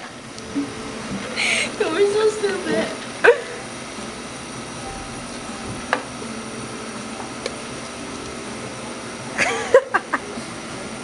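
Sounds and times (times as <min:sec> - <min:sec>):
restaurant background hum: 0:00.0 - 0:11.0.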